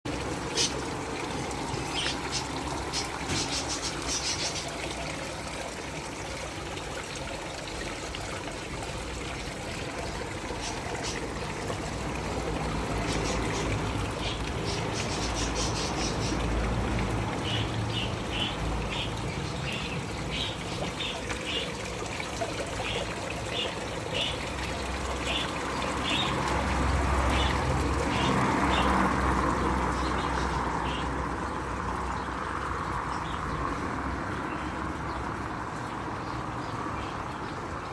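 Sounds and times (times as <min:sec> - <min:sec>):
water trickling: 0:00.1 - 0:37.9.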